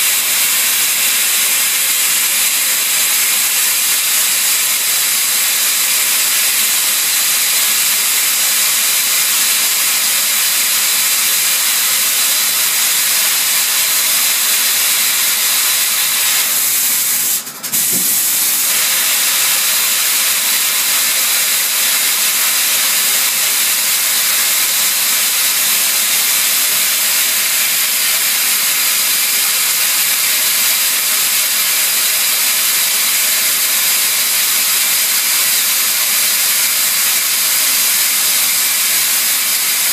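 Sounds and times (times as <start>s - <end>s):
lathe machining hiss: 0.0s - 39.9s.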